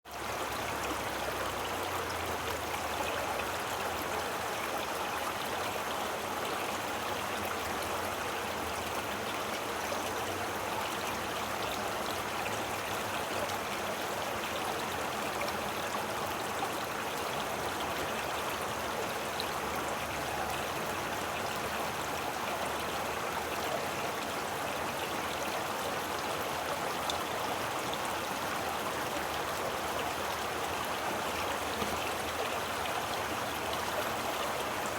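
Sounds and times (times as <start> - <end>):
stream babbling: 0.1 - 34.9.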